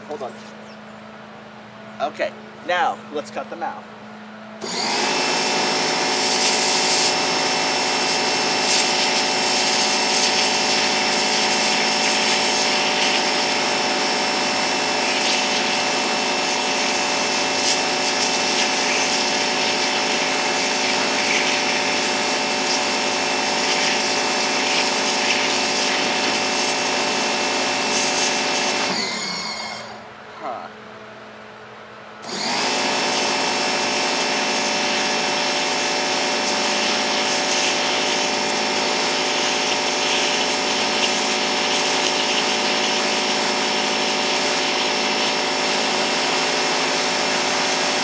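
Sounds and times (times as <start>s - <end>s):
water jet hissing: 4.6s - 30.0s, 32.2s - 48.0s
pressure washer droning: 4.6s - 30.1s, 32.2s - 48.0s.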